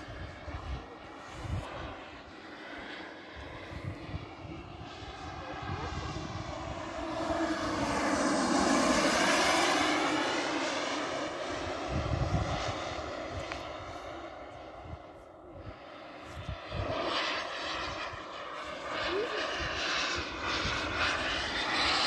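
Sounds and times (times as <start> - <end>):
model aircraft engine passing: 0.0 - 22.0.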